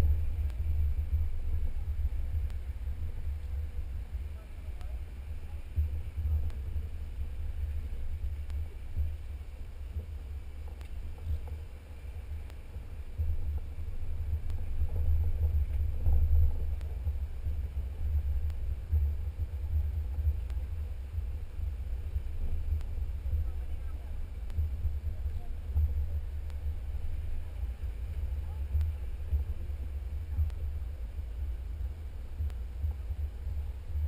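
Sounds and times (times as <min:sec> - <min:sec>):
vehicle rumbling on dirt trail: 0:00.0 - 0:34.0
wind buffeting microphone: 0:00.0 - 0:34.0.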